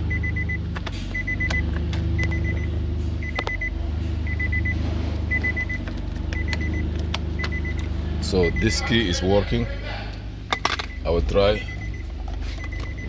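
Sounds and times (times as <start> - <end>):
steady low hum: 0.0 - 13.0
electronic warning beeper: 0.1 - 9.6, 10.6 - 13.0.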